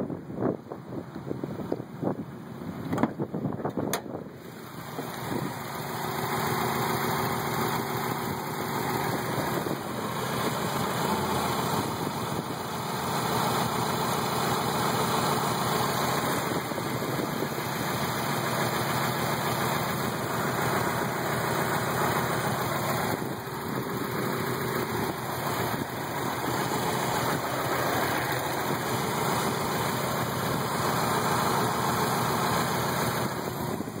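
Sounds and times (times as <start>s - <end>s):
car engine idling roughly: 3.0s - 34.0s.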